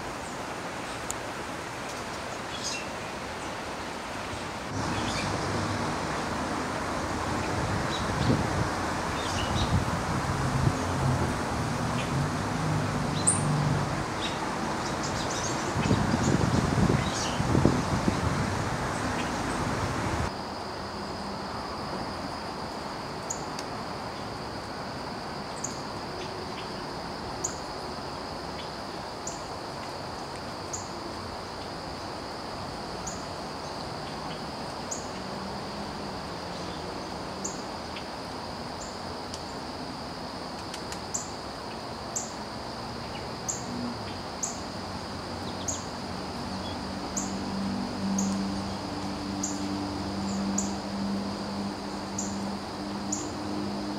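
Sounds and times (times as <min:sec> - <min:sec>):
high insect trill: 0:00.0 - 0:53.9.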